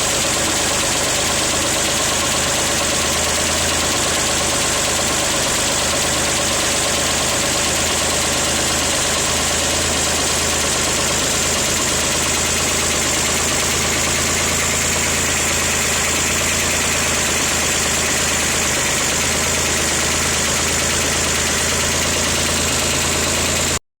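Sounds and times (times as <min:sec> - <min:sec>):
air-cooled engine idling: 0:00.0 - 0:23.8.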